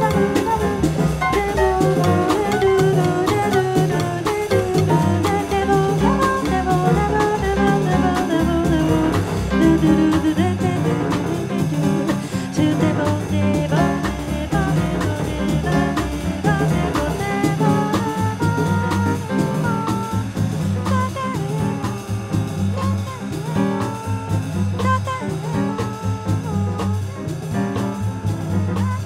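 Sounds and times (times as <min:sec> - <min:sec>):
drum kit with cymbals: 0:00.0 - 0:29.0
upright double bass: 0:00.0 - 0:29.0
woman singing: 0:00.0 - 0:29.0.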